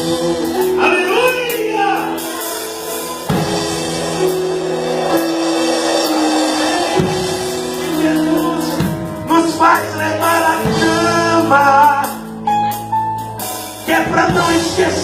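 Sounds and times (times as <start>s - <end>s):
gospel band music: 0.0s - 15.0s.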